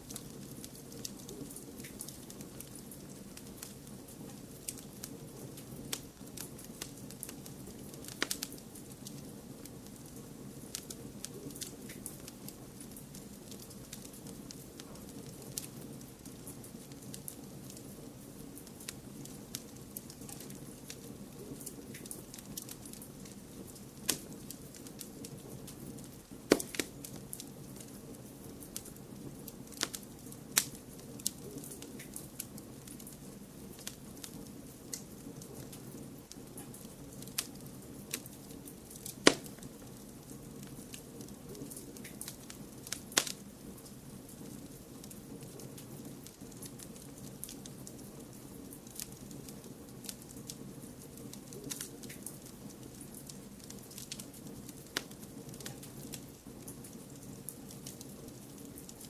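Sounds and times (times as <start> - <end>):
low hiss: 0.0 - 59.0
wood fire crackling and popping: 0.0 - 59.0.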